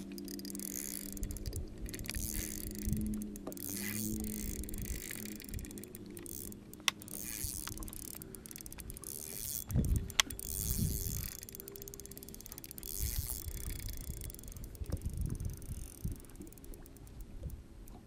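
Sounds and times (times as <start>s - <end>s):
boat motor humming: 0.0s - 18.0s
sharp clicks: 0.0s - 18.0s.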